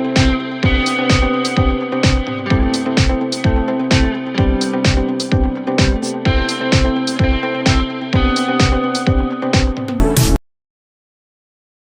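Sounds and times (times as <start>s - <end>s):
electronic music with steady beat: 0.0s - 10.4s.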